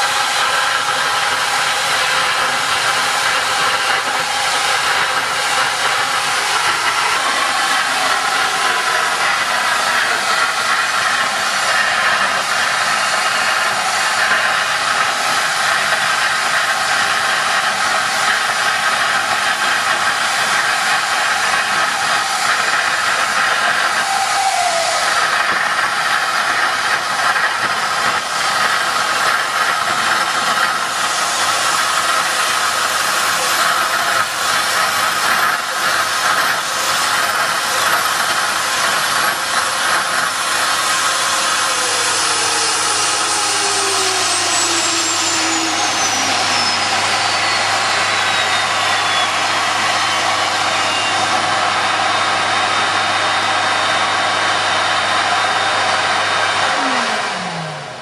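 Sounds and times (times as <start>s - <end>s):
jet engine roaring: 0.0s - 58.0s
turbine whine falling in pitch: 0.0s - 58.0s.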